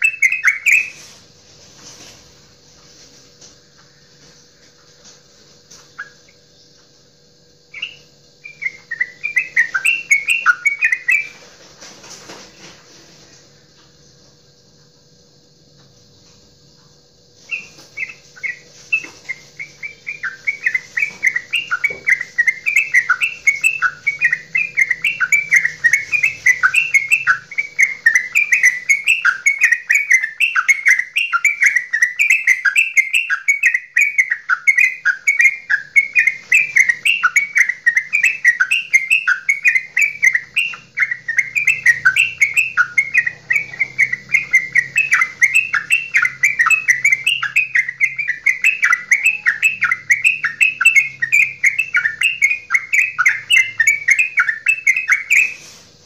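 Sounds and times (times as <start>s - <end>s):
bird chirping rapidly: 0.0s - 1.2s, 5.8s - 6.9s, 7.5s - 11.6s, 17.3s - 56.0s.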